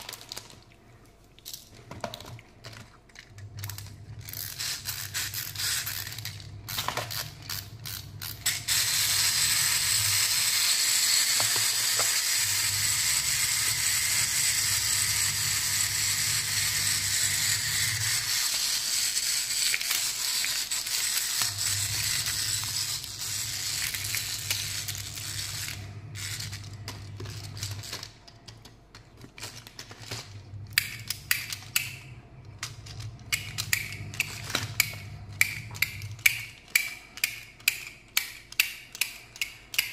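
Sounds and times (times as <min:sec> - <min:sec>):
plastic toy mechanism ratcheting: 0:02.6 - 0:32.0, 0:32.6 - 0:39.9.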